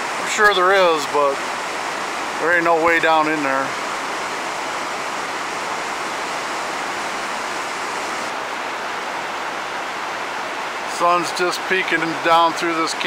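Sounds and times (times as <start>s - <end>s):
whitewater rushing through canyon: 0.0s - 13.0s.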